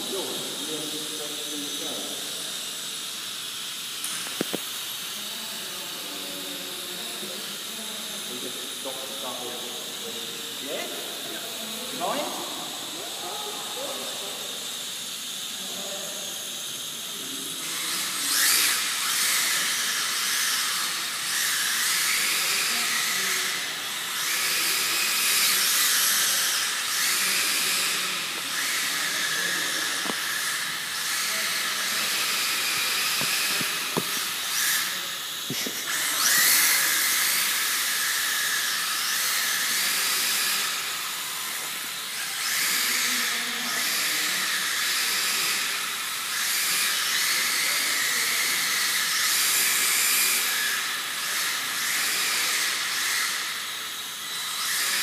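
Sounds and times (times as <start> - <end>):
model aircraft motor whine: 0.0 - 55.0.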